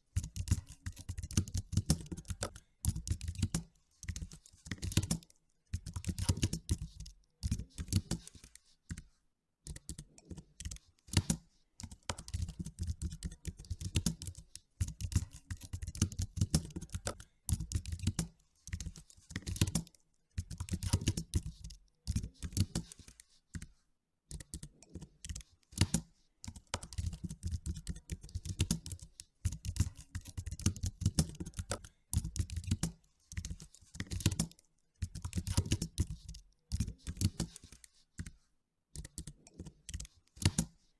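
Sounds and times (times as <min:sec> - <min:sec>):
computer keyboard typing: 0:00.1 - 0:09.1, 0:09.7 - 0:23.7, 0:24.3 - 0:40.9.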